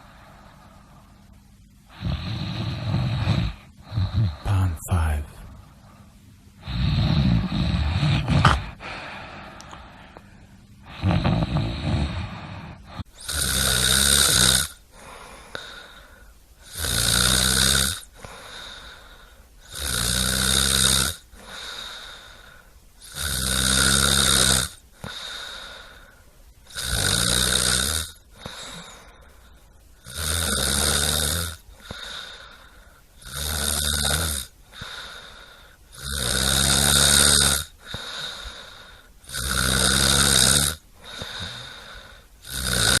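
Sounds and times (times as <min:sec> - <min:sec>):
person snoring: 0:01.9 - 0:05.7, 0:06.6 - 0:10.2, 0:10.8 - 0:26.1, 0:26.7 - 0:29.2, 0:30.0 - 0:43.0.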